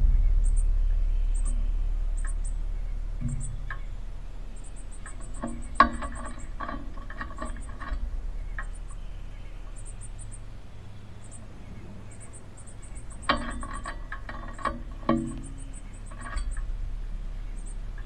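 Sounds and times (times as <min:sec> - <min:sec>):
low rumble: 0:00.0 - 0:18.0
rapid bird chirping: 0:00.0 - 0:18.0.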